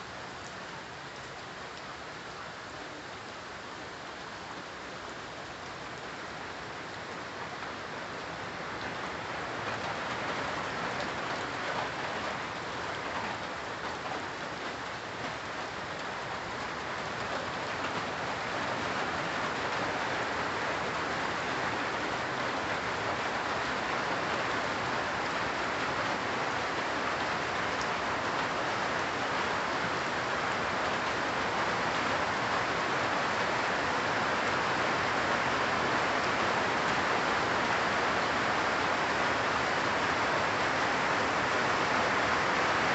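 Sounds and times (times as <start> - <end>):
rain pattering on leaves: 0.0 - 42.9.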